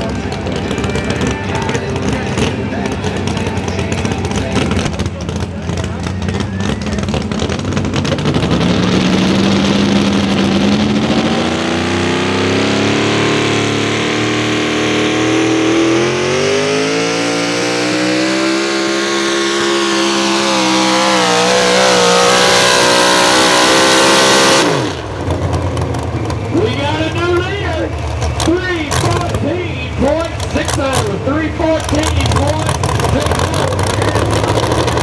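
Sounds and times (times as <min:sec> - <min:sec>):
truck engine running hard: 0:00.0 - 0:35.0.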